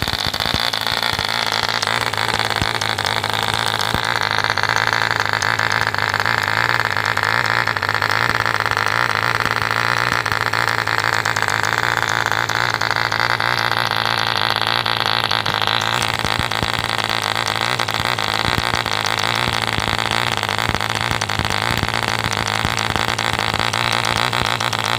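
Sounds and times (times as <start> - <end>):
model engine high buzz: 0.0 - 24.9.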